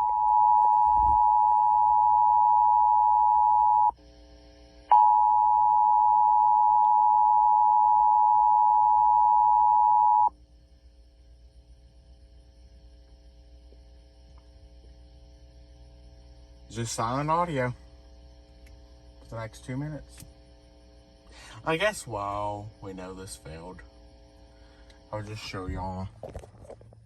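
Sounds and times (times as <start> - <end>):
faint hum of dead air: 0.0 - 27.0.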